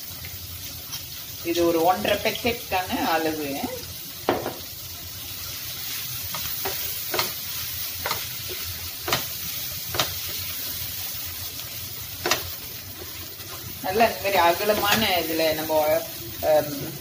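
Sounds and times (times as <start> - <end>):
seafood sizzling in a frying pan: 0.0 - 17.0.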